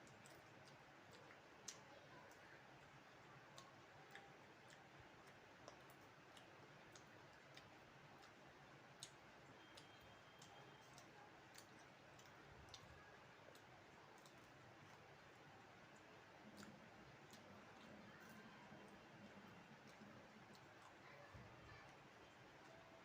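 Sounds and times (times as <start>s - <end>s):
chewing and mouth sounds: 0.0s - 23.0s.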